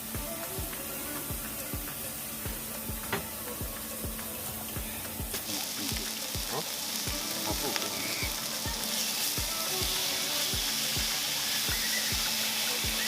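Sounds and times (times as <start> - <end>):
background music with low beat: 0.0 - 13.0
pork sizzling in a pan: 0.0 - 13.0.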